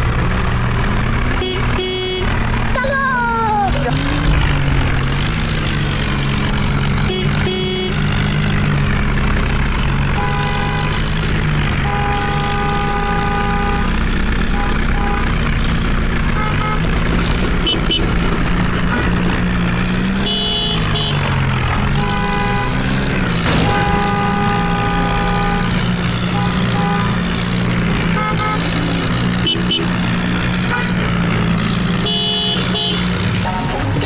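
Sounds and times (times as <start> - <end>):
diesel machinery hum: 0.0 - 34.0.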